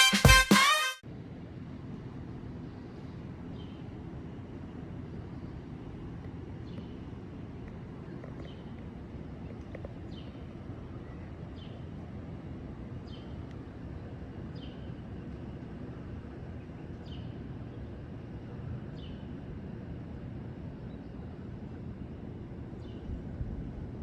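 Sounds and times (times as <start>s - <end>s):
low outdoor rumble: 1.1s - 24.0s.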